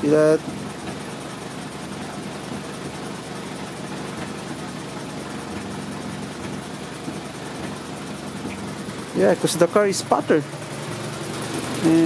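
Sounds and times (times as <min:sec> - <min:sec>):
car engine idling and sputtering: 0:00.0 - 0:12.0.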